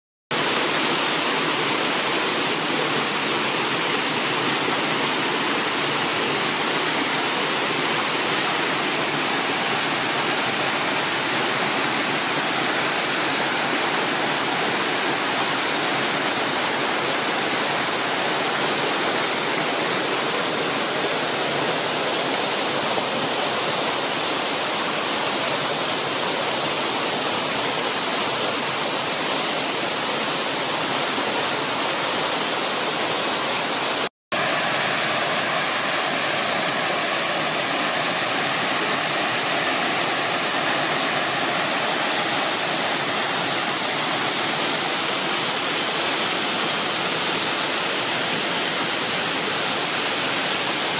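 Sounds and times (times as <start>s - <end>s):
small waterfall rushing: 0.3s - 50.9s.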